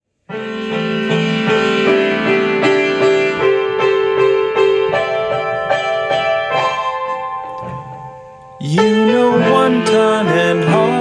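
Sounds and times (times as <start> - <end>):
piano melody with chords: 0.1 - 11.0.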